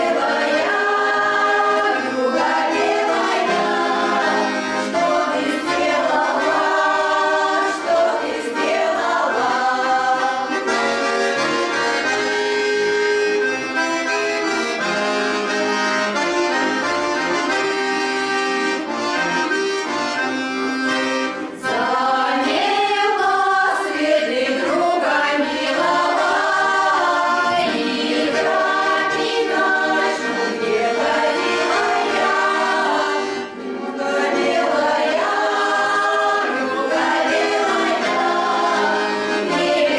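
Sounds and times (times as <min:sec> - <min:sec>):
choir singing folk song: 0:00.0 - 0:13.5, 0:20.1 - 0:39.9
accordion chords: 0:00.0 - 0:39.9.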